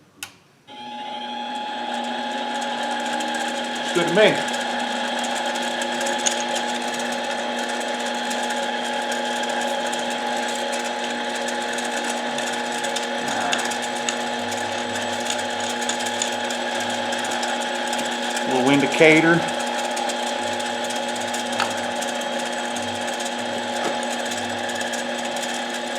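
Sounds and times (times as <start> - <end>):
lathe motor whine: 0.7 - 25.9.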